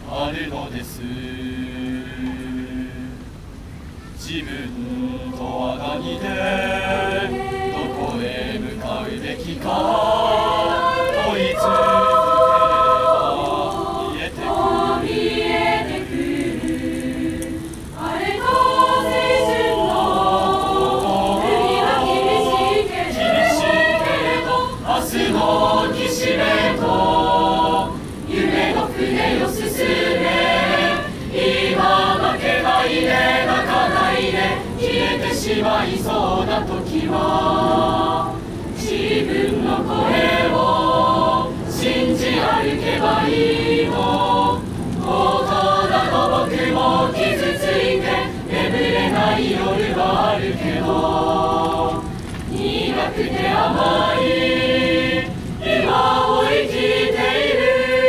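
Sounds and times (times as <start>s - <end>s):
choir singing a pop ballad: 0.0s - 3.4s, 4.2s - 58.0s.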